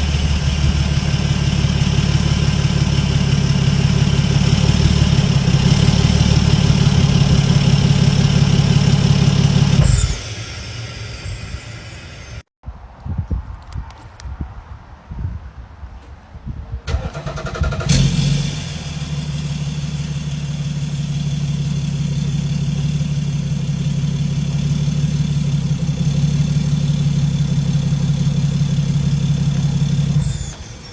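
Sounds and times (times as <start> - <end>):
diesel engine idling: 0.0 - 12.5, 17.1 - 30.9.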